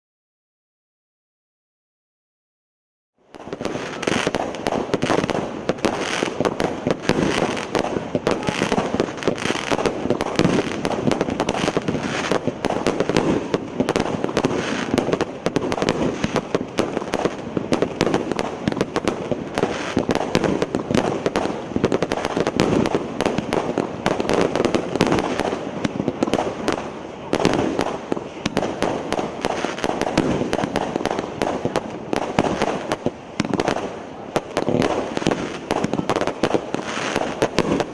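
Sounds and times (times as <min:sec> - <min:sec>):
fireworks launching and banging: 0:03.3 - 0:37.9.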